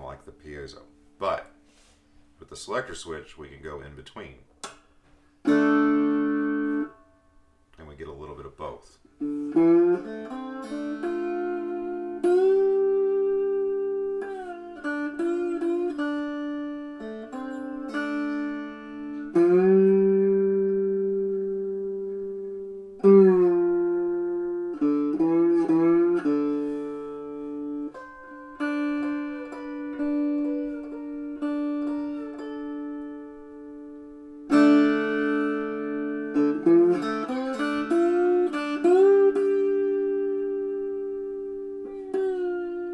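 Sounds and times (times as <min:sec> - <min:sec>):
electric slide guitar plucking: 0:05.4 - 0:07.3, 0:09.2 - 0:42.9.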